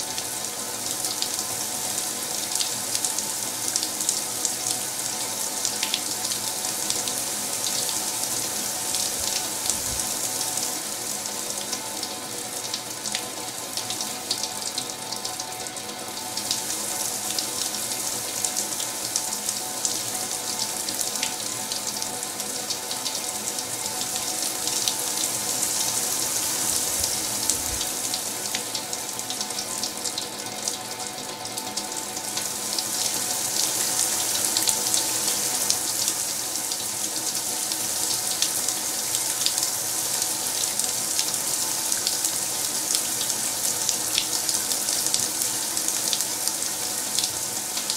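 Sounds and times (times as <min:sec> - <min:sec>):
tap water running into basin: 0:00.0 - 0:47.9.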